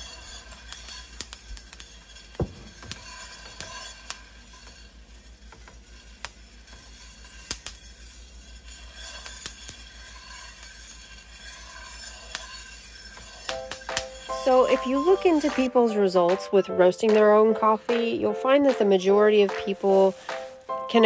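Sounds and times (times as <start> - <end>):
sizzling hiss: 0.0 - 15.8, 17.3 - 21.0
coffee beans popping: 0.0 - 21.0
metal whisk stirring beans: 0.0 - 21.0.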